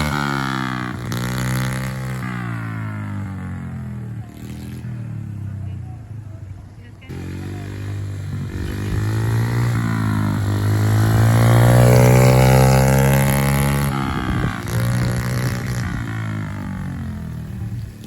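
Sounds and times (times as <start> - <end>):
small motorbike passing by: 0.0 - 18.0.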